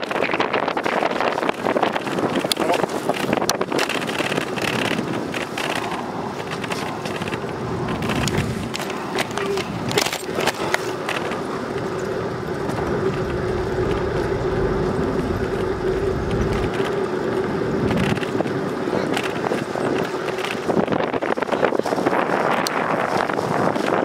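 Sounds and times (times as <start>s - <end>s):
bicycle tyres on pavement: 0.0s - 24.0s
wind buffeting microphone: 0.0s - 24.0s
steady hum: 1.7s - 21.8s.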